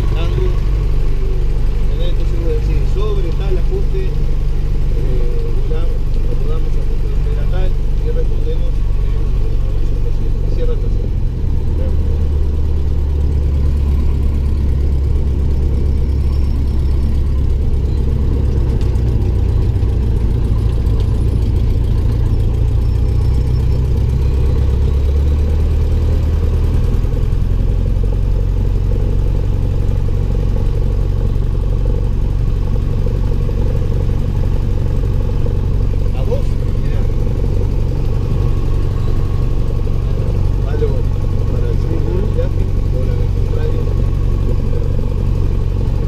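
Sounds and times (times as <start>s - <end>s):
aircraft piston engine and propeller: 0.0s - 46.0s.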